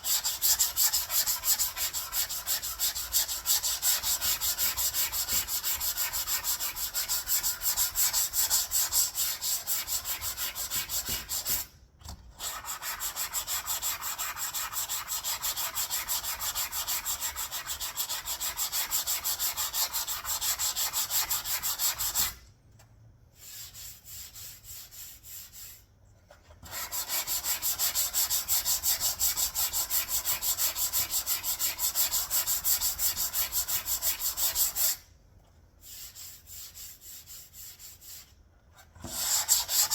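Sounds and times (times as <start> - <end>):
sanding block rasping: 0.0 - 11.7, 12.4 - 22.4, 23.4 - 25.8, 26.6 - 35.0, 39.0 - 39.9.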